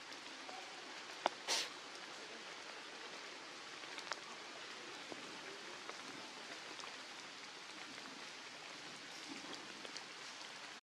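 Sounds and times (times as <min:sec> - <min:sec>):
faint ticks and patters: 0:00.0 - 0:10.8
outdoor background hiss: 0:00.0 - 0:10.8.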